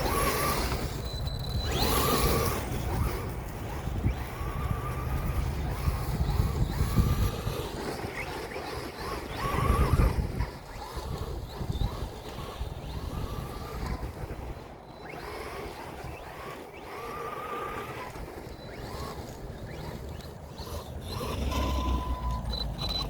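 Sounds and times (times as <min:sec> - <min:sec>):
electric motor whine: 0:00.0 - 0:23.0
wind noise: 0:00.0 - 0:23.0.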